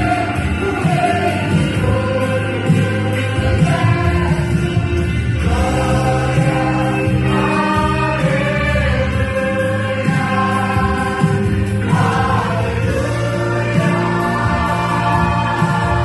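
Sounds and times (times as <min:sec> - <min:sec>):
accompaniment with sustained bass: 0:00.0 - 0:16.0
group singing gospel in harmony: 0:00.0 - 0:16.0.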